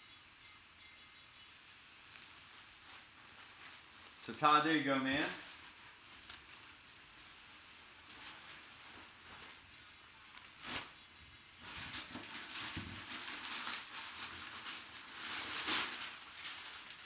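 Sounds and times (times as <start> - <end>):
packaging crinkling and rustling: 2.0 - 11.0, 11.6 - 17.0.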